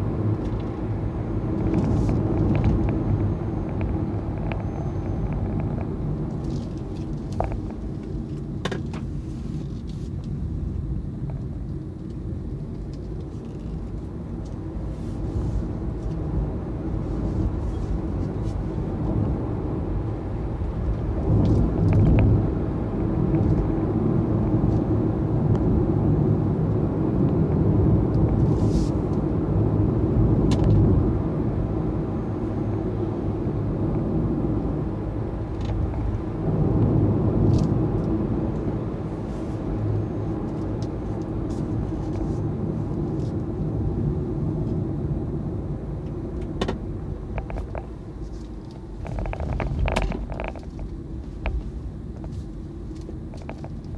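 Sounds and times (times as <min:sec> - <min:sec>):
road and tyre noise in car: 0:00.0 - 0:53.9.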